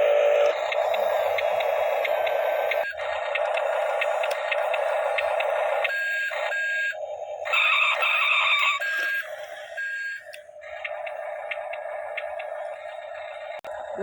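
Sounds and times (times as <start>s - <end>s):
electric motors whirring: 0.0s - 14.0s.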